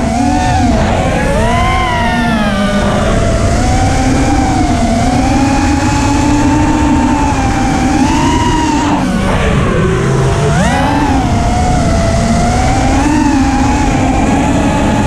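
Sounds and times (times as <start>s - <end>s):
low wind rumble: 0.0s - 15.0s
quadcopter motors whining: 0.0s - 15.0s.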